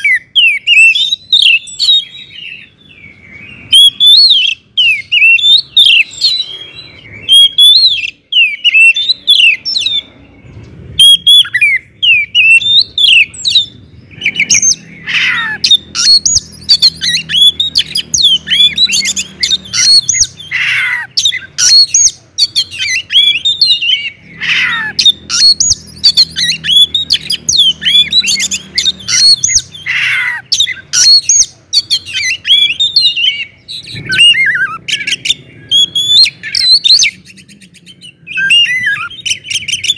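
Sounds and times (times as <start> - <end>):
bird singing whistled notes: 0.0 - 39.9
harsh rasping bird calls: 0.0 - 39.9.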